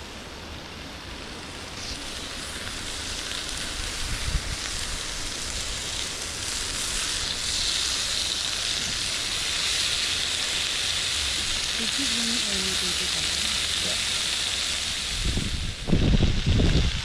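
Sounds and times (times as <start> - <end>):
burgers sizzling on a grill: 0.0 - 17.0.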